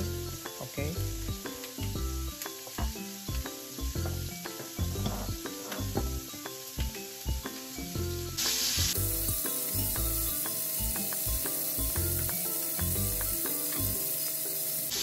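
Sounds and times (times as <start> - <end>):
background music: 0.0 - 15.0
pot boiling hard: 0.0 - 15.0.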